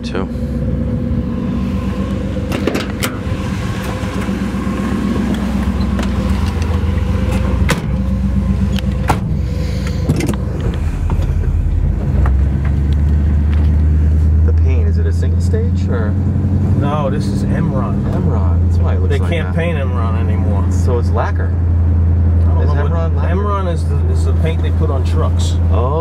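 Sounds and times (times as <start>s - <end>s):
car engine rumble: 0.0s - 26.0s.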